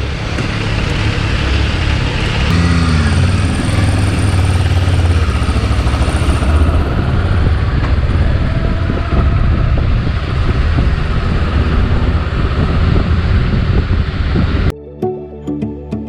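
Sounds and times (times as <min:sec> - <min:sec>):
motorcycle engine running: 0:00.0 - 0:14.7
wind rush on microphone: 0:00.0 - 0:14.7.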